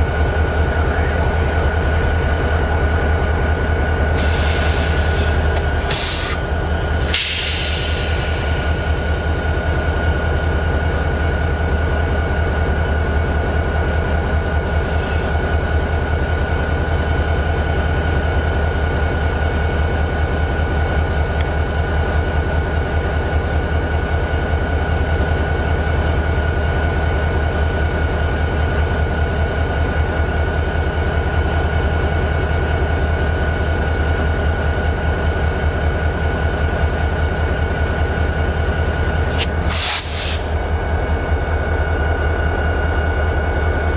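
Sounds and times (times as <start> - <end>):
diesel locomotive engine idling: 0.0 - 43.9.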